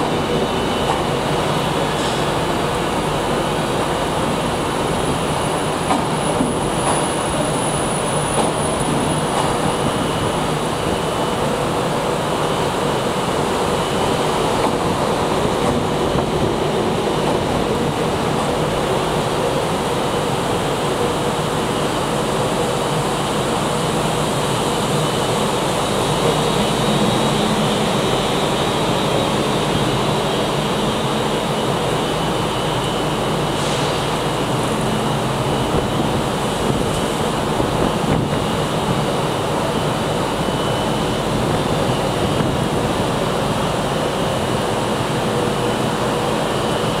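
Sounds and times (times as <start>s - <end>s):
electric train hum and whine: 0.0s - 47.0s.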